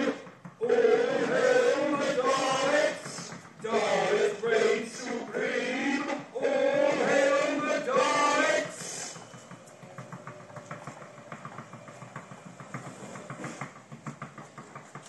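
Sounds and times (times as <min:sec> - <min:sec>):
motorised base driving: 0:00.0 - 0:15.0.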